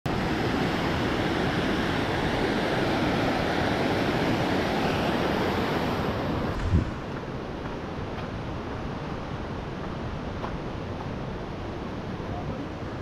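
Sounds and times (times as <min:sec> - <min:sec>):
river rapids rushing over boulders: 0:00.1 - 0:13.0.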